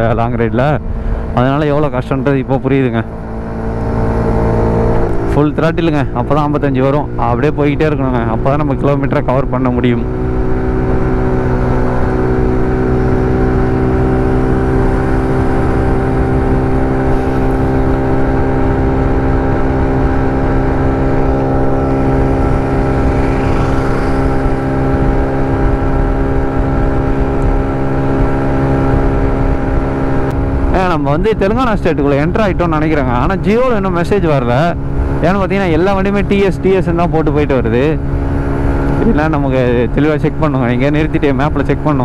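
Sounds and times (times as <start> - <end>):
moped engine at full throttle: 0.0 - 42.0.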